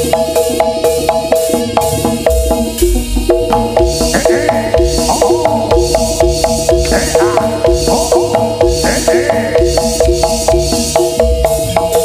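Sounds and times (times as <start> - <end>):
low drum beats: 0.0 - 12.0.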